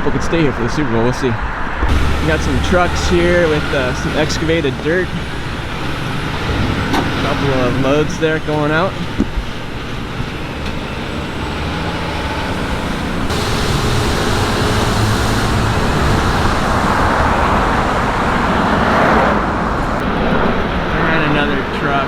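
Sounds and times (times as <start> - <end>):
heavy vehicle passing close: 0.0 - 22.0
road traffic: 0.0 - 22.0.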